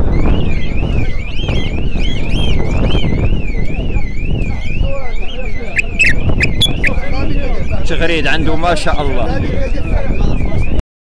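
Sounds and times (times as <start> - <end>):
electronic alarm siren warbling: 0.0 - 9.4.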